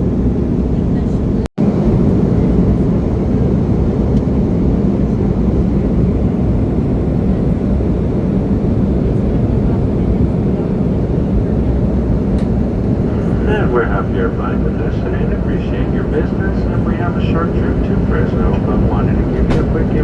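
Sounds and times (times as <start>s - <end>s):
jet cabin rumble: 0.0s - 20.0s.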